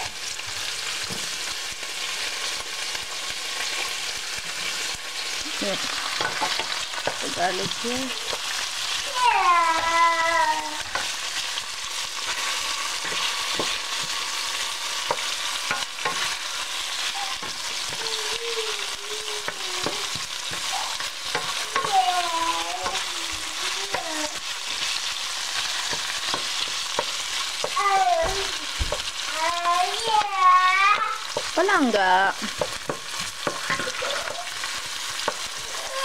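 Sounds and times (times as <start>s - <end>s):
meat sizzling in hot oil: 0.0s - 36.0s
wooden spatula scraping a pan: 3.7s - 29.3s, 31.3s - 36.0s.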